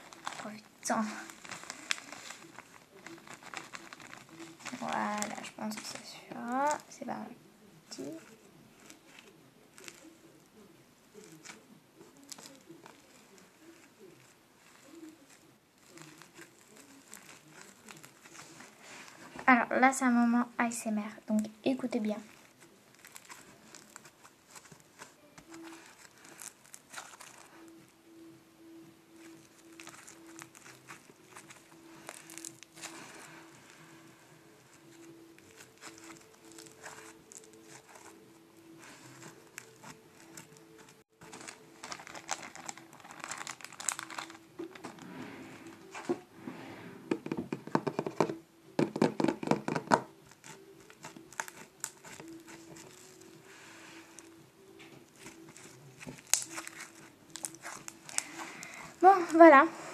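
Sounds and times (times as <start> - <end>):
slime crackling and popping: 0.0 - 7.0, 7.9 - 10.6, 11.2 - 20.2, 21.8 - 27.9, 29.1 - 33.8, 34.6 - 38.2, 38.8 - 45.0, 47.2 - 59.7.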